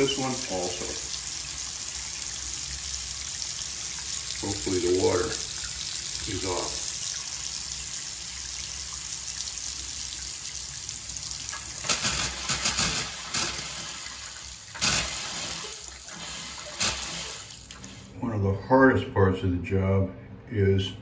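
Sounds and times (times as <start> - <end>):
faucet water splashing in sink: 0.0 - 18.2.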